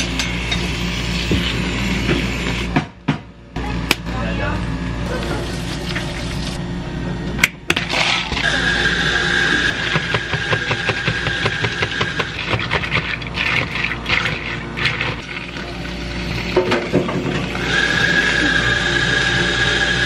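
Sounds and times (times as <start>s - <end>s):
high machine whine: 3.5s - 20.0s.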